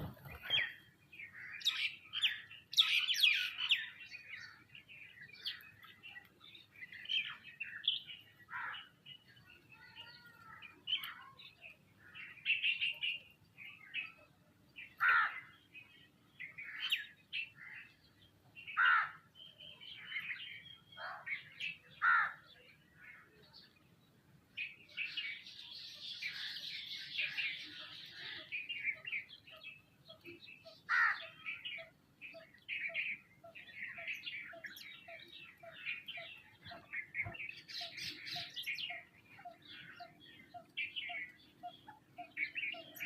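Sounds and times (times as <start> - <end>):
birds chirping and chattering: 0.0 - 43.0.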